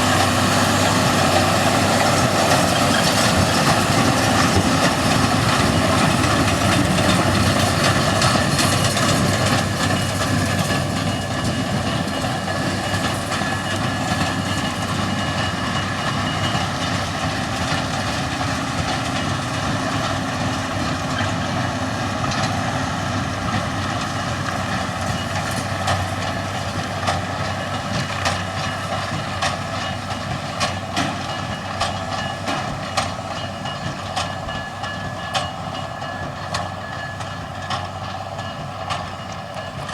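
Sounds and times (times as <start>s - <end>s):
large vehicle running noise: 0.0s - 39.9s.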